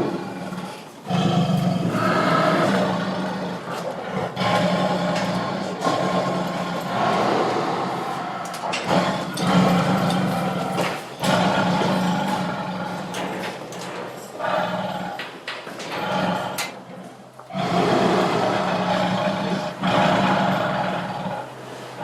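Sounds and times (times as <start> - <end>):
tiger growling: 0.0 - 22.0.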